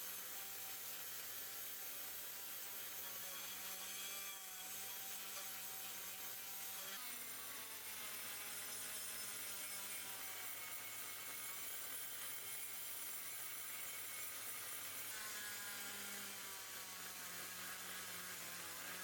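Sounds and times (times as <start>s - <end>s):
small electric power tool running: 0.0s - 19.0s.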